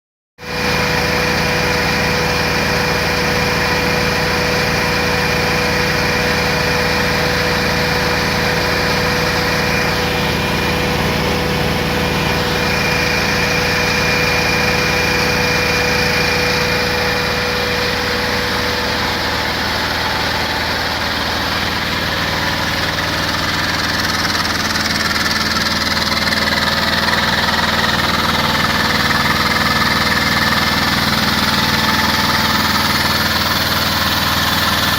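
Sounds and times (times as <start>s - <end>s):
compressor humming with high whine: 0.4s - 34.9s.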